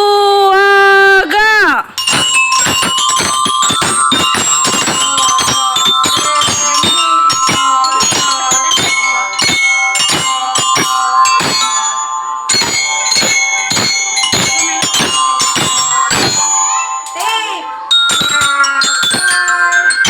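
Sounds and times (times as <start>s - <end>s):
count-in: 1.9s - 20.0s
drum strikes: 2.0s - 20.0s
glockenspiel melody: 2.0s - 20.0s.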